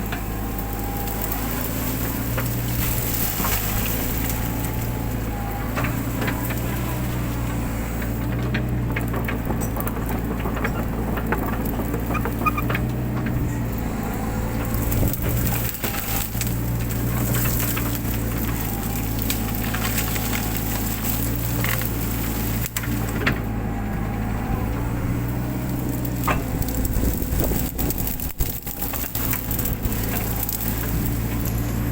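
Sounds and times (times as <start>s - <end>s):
branches cracking and snapping: 0.0s - 31.9s
excavator diesel engine running: 0.0s - 31.9s.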